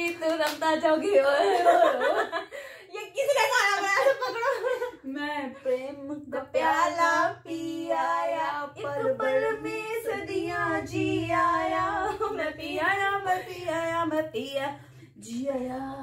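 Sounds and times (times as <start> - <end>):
woman singing unaccompanied: 0.0 - 2.2, 5.0 - 16.0.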